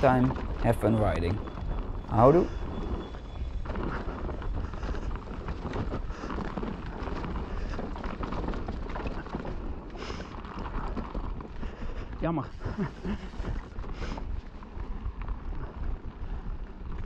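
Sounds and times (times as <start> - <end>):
bike rattling: 0.0 - 17.0
bike tyres rolling on dirt: 0.0 - 17.0
wind rumble on microphone: 0.0 - 17.0.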